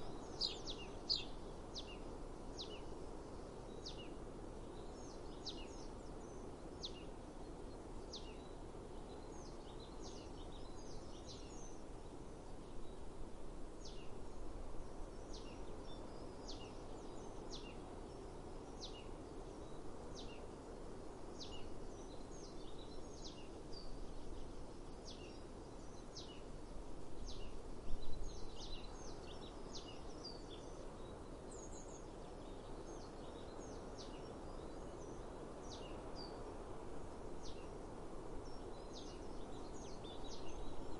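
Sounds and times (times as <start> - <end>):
outdoor background noise: 0.0 - 40.9
small birds chirping: 0.0 - 40.9.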